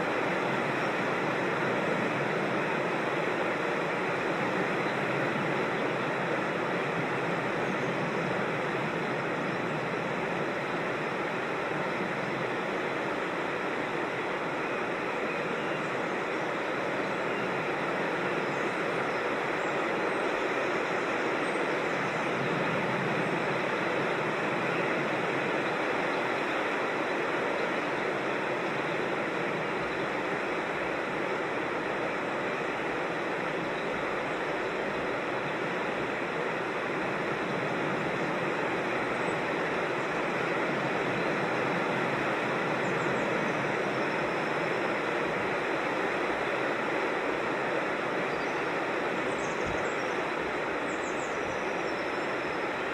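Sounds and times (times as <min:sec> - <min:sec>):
creek water rushing over rocks: 0:00.0 - 0:52.9.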